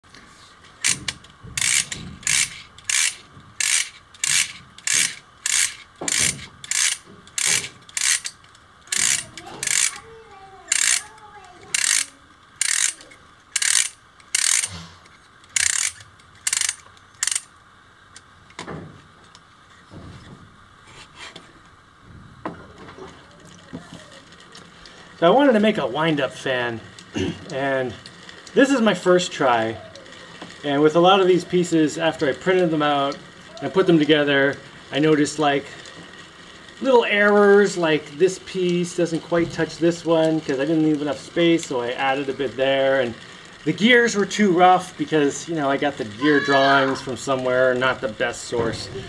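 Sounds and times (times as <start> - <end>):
wind-up fan gears rasping: 0.0 - 22.0, 22.7 - 49.0.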